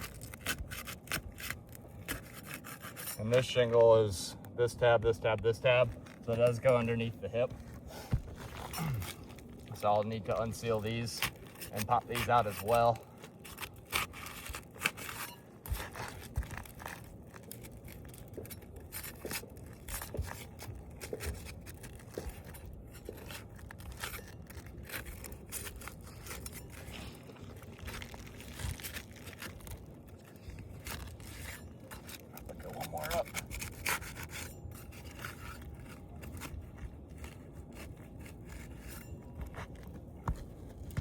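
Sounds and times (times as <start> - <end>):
roof shingles scraping and tearing: 5.6 - 41.0.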